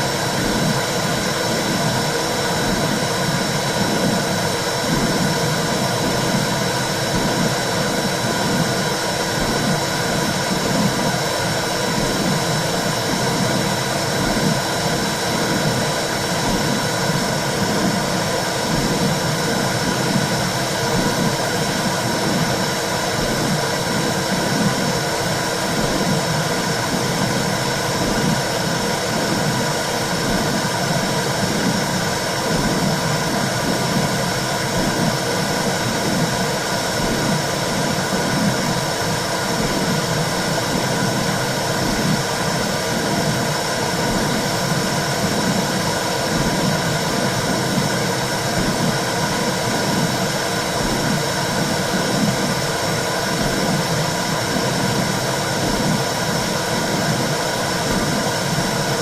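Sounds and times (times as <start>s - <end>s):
low regular pulsing: 0.0s - 59.0s.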